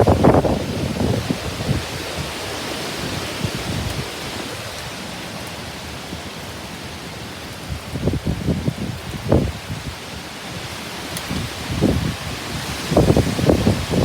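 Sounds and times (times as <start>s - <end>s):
heavy rain pouring: 0.0s - 14.0s
wind gusts buffeting microphone: 0.0s - 14.0s.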